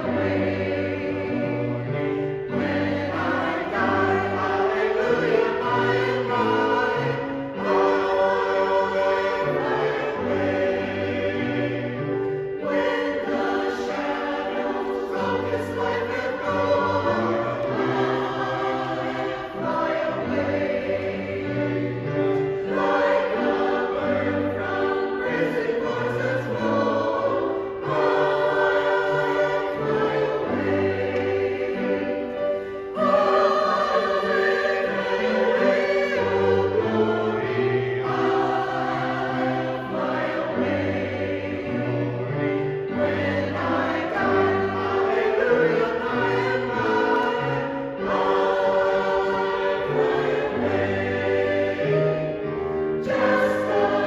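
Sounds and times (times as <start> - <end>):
mixed choir singing in harmony: 0.0 - 54.0.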